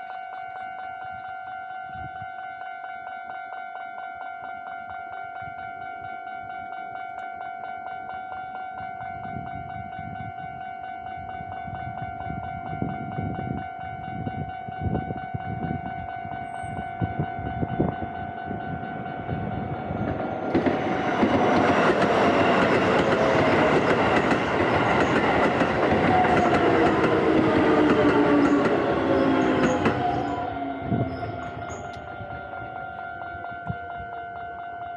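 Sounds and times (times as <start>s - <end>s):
level crossing alarm ringing: 0.0s - 34.9s
train running through crossing: 0.0s - 34.9s.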